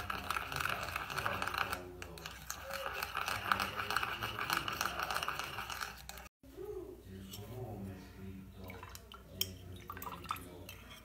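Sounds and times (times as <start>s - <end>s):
teaspoon stirring in ceramic bowl: 0.0s - 6.4s, 7.1s - 7.7s, 8.5s - 11.0s.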